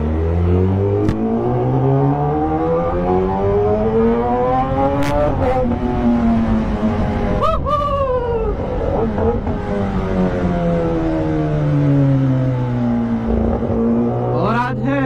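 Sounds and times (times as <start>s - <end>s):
motorcycle engine accelerating: 0.0s - 7.4s, 8.5s - 15.0s.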